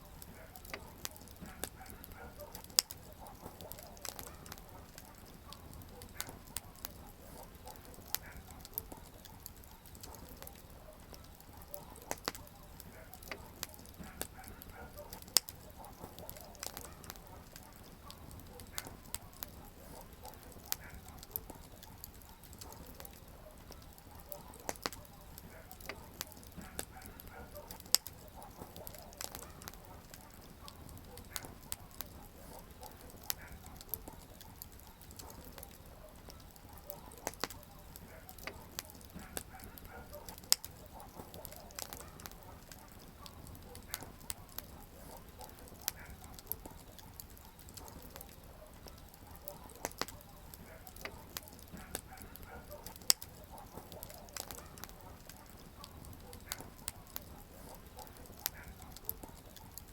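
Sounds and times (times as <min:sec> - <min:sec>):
wood campfire crackling: 0:00.0 - 0:59.9.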